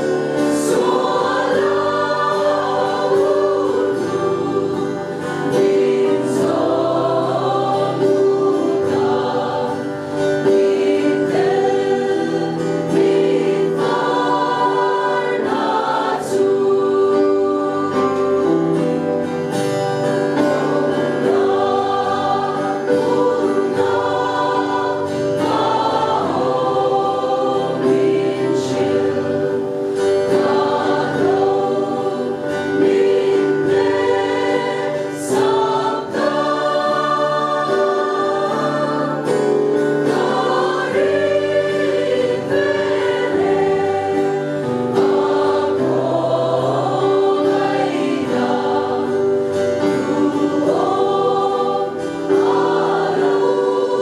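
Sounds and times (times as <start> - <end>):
choir singing a hymn: 0.0 - 54.0
strummed acoustic guitar: 0.0 - 54.0.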